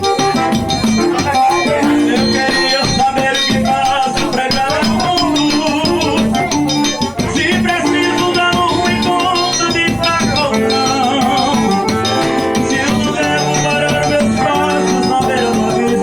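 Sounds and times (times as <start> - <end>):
accordion playing dance tune: 0.0 - 16.0
steady percussion: 0.0 - 16.0.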